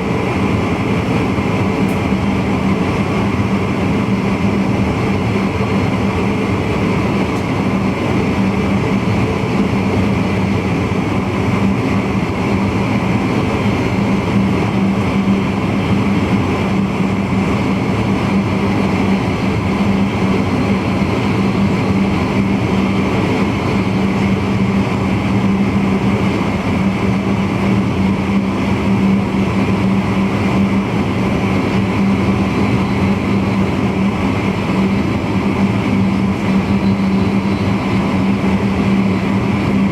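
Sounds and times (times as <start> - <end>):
constant low hum: 0.0 - 39.9
train wheels rumbling on rail: 0.0 - 39.9.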